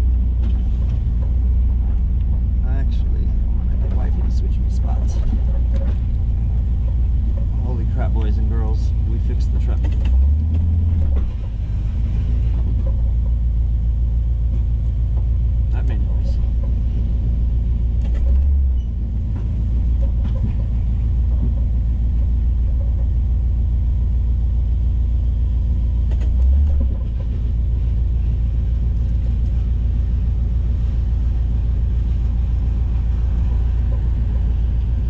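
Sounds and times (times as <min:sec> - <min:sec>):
pickup engine and road rumble: 0:00.0 - 0:35.0.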